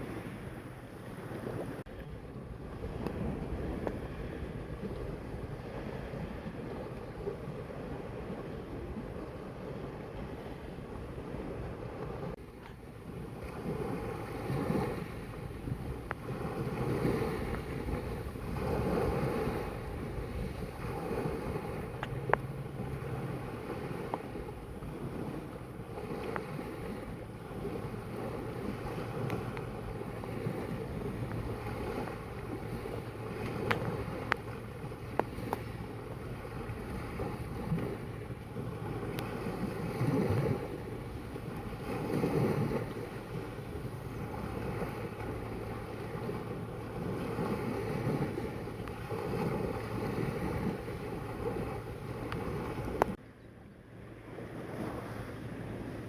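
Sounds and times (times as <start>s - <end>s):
wind buffeting microphone: 0.0s - 53.2s
sea water washing and surging: 0.0s - 56.0s.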